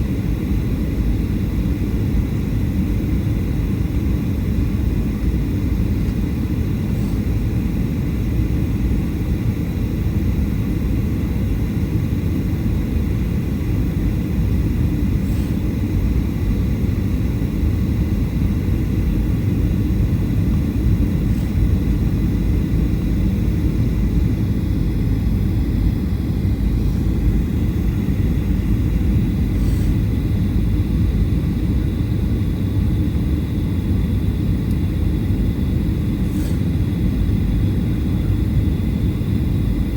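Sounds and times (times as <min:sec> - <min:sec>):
airplane cabin rumble: 0:00.0 - 0:39.9
faint high whine: 0:00.0 - 0:39.9.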